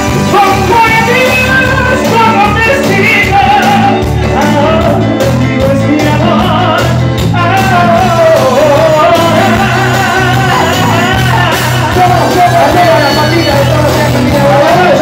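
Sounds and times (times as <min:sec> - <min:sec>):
bass line: 0:00.0 - 0:15.0
congas: 0:00.0 - 0:15.0
drum kit: 0:00.0 - 0:15.0
person singing lead: 0:00.2 - 0:15.0.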